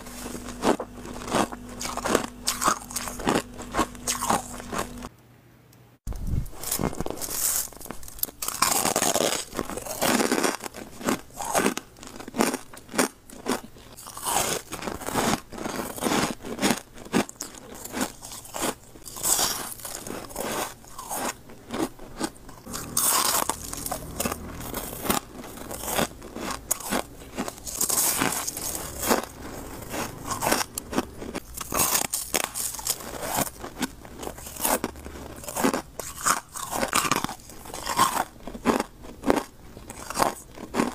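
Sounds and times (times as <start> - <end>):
crunching ice: 0.0 - 5.1, 6.5 - 40.9
quiet chewing: 0.0 - 5.1, 6.6 - 40.9.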